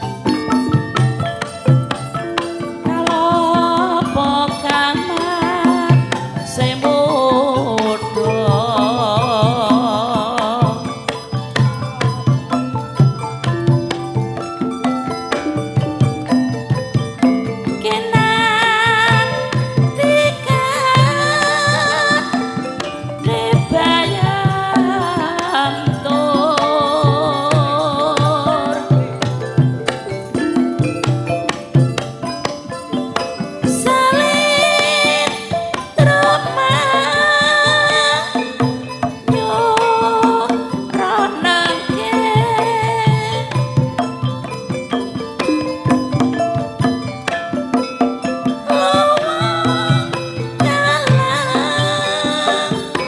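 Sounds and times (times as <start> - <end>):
drum strokes: 0.0 - 53.0
high melody with heavy vibrato: 0.0 - 53.0
pitched percussion notes: 0.0 - 53.0
struck metal instruments: 0.0 - 53.0
woman singing wavering line: 0.0 - 53.0.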